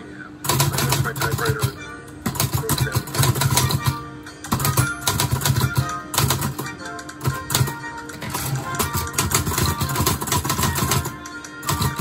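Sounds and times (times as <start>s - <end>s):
background music: 0.0s - 12.0s
typewriter keys clacking: 0.5s - 12.0s.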